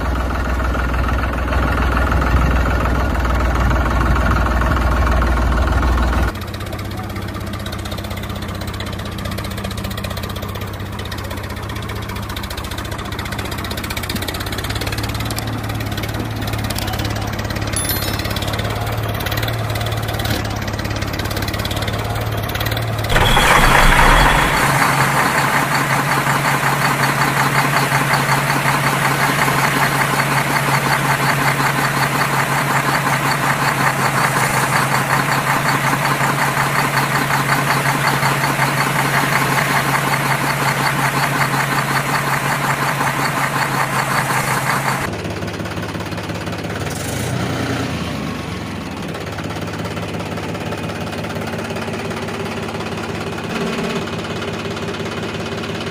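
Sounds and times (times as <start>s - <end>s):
engine running with rapid knocking: 0.0s - 55.9s.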